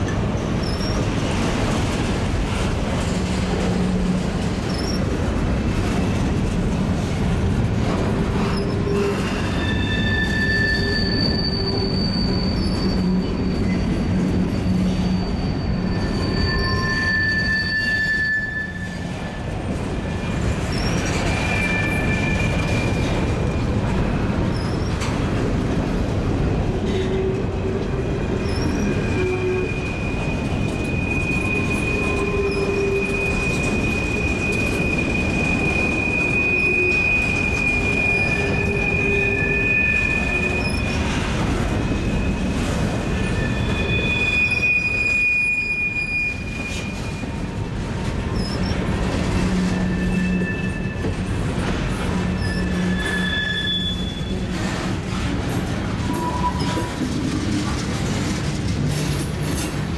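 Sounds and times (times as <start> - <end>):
train wheels squealing: 0.0 - 25.6, 26.6 - 59.9
train cars rumbling: 0.0 - 59.9.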